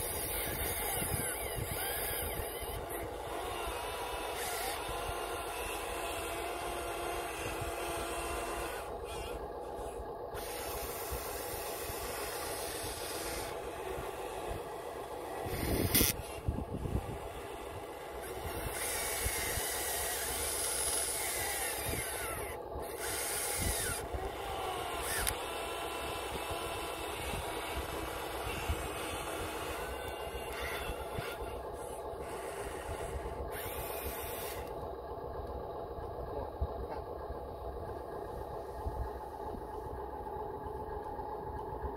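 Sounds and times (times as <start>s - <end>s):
small electric motors whirring: 0.0s - 34.9s.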